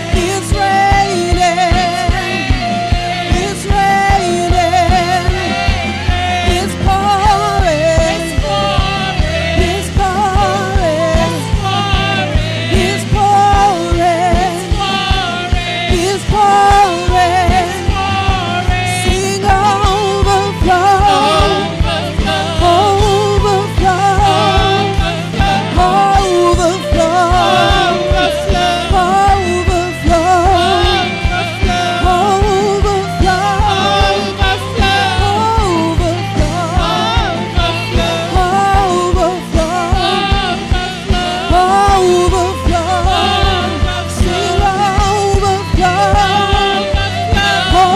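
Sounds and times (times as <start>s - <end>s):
drum kit and band: 0.0s - 47.9s
people singing worship music: 0.0s - 47.9s.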